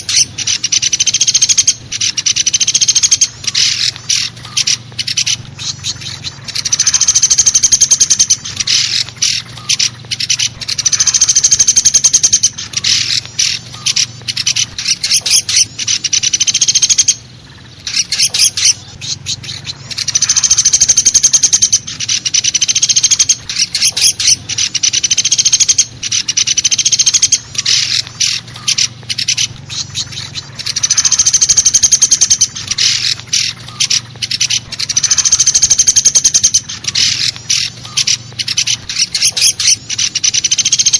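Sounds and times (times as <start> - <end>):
woodpecker rattling calls: 0.0 - 40.9.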